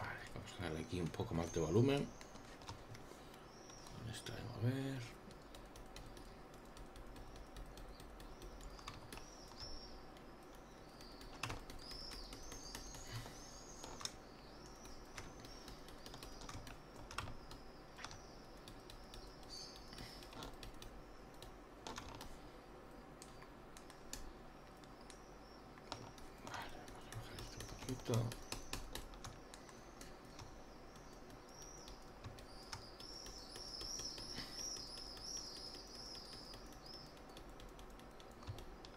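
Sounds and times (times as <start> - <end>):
keyboard and mouse clicks: 5.2 - 22.4, 23.2 - 38.9.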